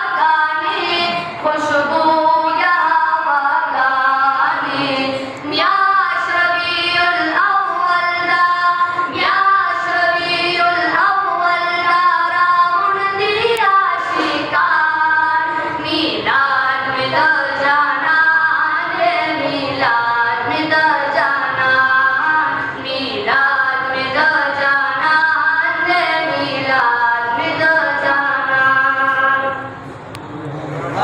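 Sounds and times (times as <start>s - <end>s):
high voice singing into microphone: 0.0s - 29.8s.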